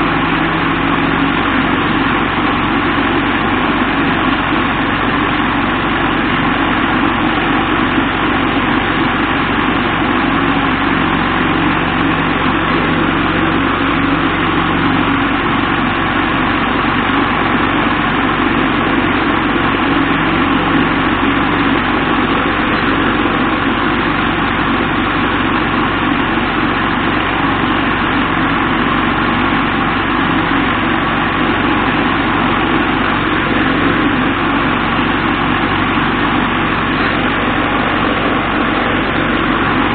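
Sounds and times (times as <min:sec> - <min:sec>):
motor hum: 0:00.0 - 0:39.9.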